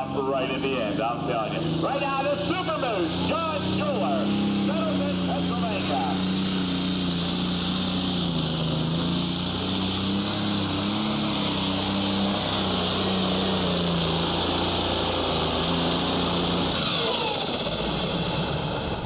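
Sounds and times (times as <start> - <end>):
tractor diesel engine running loud: 0.0 - 19.0.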